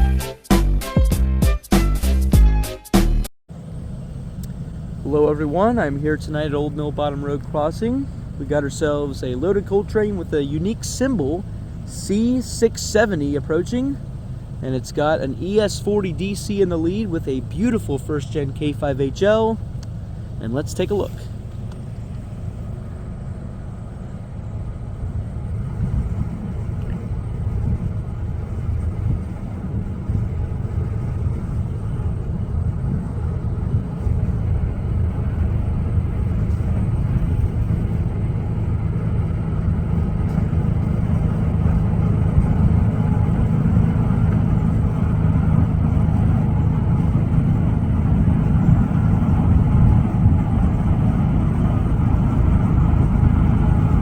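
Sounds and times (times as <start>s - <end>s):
locomotive engine rumble: 3.5s - 54.0s.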